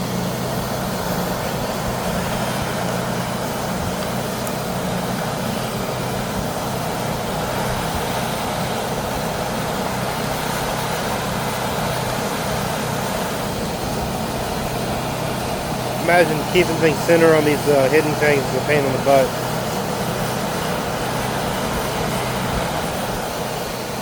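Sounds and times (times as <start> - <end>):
workshop machinery drone: 0.0 - 24.0.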